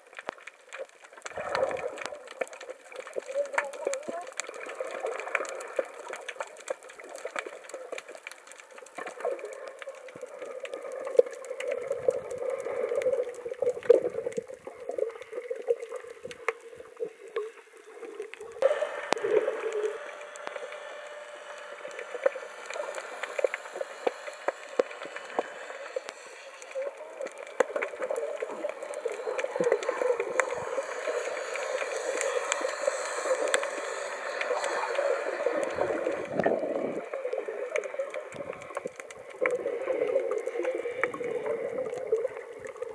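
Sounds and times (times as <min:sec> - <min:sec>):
muffled underwater rushing water: 0:00.0 - 0:42.9
small clicks and crackles: 0:00.0 - 0:42.9.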